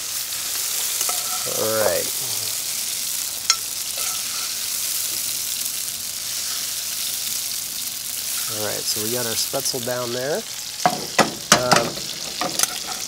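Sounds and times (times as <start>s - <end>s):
chicken sizzling in a skillet: 0.0s - 13.0s.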